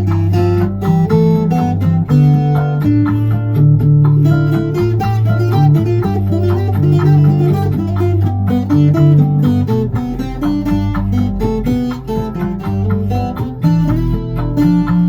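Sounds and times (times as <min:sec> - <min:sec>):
backing track with bass and percussion: 0:00.0 - 0:15.0
plucked guitar-like strings: 0:00.0 - 0:15.0.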